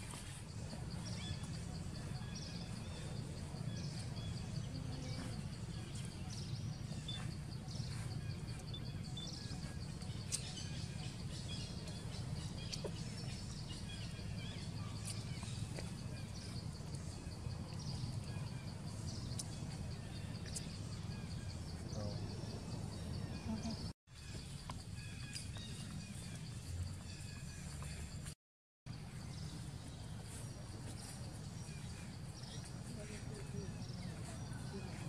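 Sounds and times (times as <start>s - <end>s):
bird chirps: 0.0s - 28.4s.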